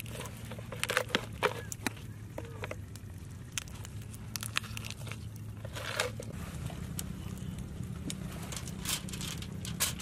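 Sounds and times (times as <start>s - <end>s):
herbs and stalks crunching: 0.0s - 10.0s
low steady hum: 0.0s - 10.0s.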